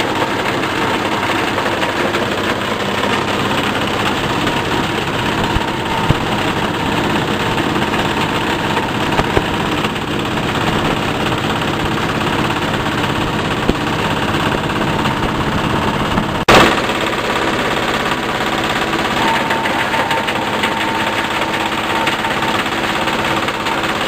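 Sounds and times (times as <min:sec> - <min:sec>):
shredding machine running: 0:00.0 - 0:24.0.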